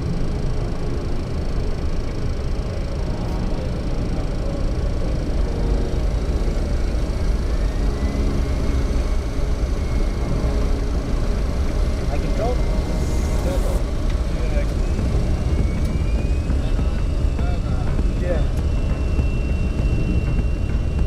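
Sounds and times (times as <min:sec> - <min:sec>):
aircraft engines rumbling: 0:00.0 - 0:21.0
faint rising whine: 0:00.0 - 0:21.0.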